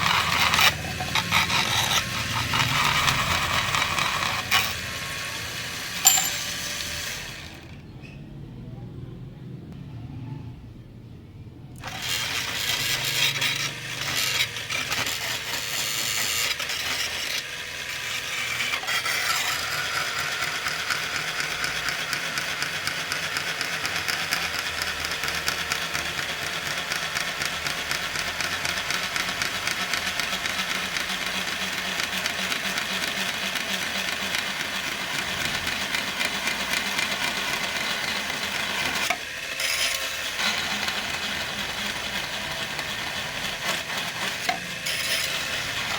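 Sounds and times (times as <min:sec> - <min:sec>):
angle grinder cutting plastic: 0:00.0 - 0:07.8, 0:11.8 - 0:45.9.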